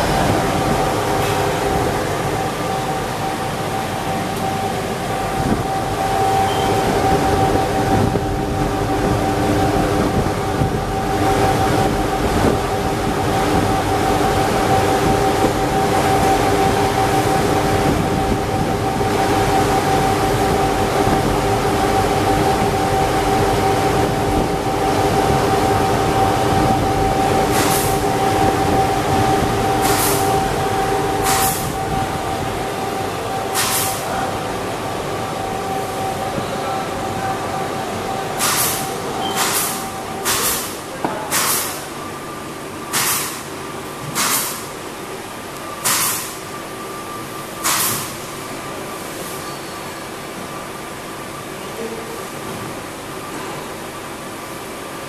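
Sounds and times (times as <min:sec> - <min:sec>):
machine hum and fans: 0:00.0 - 0:55.0
steady whine: 0:00.0 - 0:55.0.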